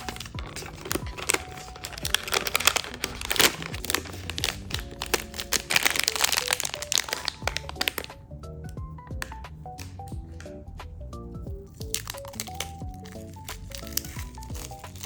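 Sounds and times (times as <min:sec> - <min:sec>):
packaging crinkling: 0:00.0 - 0:10.6, 0:11.4 - 0:15.0
soft background music: 0:00.0 - 0:15.0.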